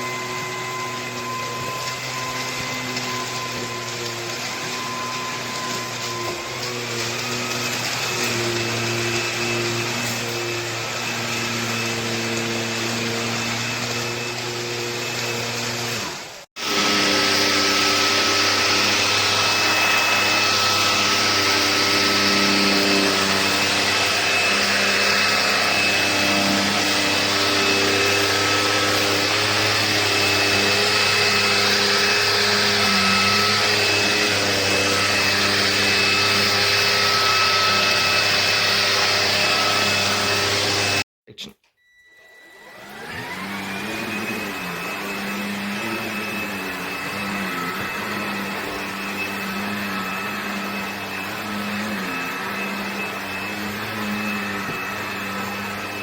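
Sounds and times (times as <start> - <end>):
cordless stick vacuum running: 0.0 - 41.1, 42.1 - 56.0.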